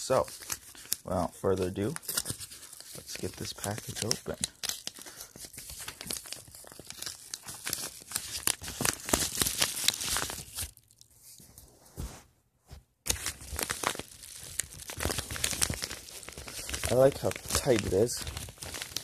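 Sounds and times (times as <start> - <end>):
paper envelope tearing: 0.0 - 1.1, 1.8 - 10.8, 13.1 - 19.0.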